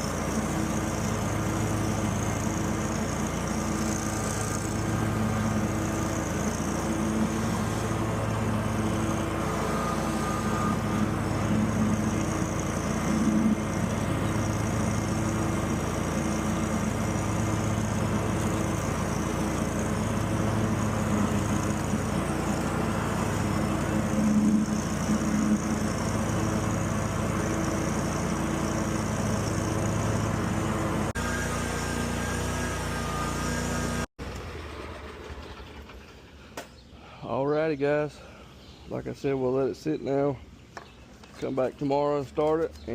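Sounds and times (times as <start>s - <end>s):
mower engine running: 0.0s - 36.6s.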